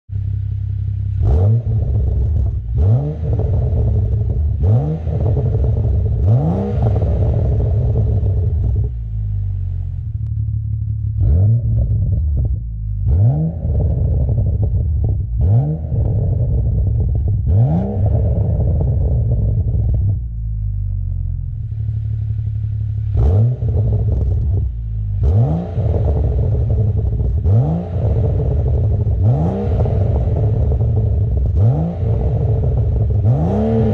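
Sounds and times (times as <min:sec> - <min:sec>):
car engine idling: 0:00.1 - 0:33.9
car exhaust throttle blips: 0:00.1 - 0:33.9.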